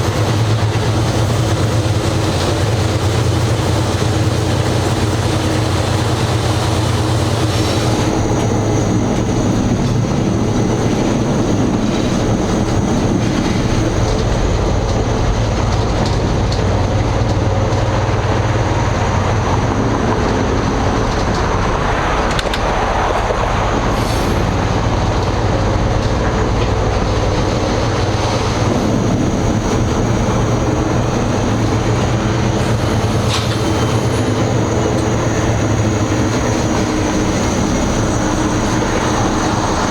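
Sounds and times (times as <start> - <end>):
diesel engine running: 0.0 - 39.9
rumbling noise: 0.0 - 39.9
wheels rolling on rails: 0.0 - 39.9.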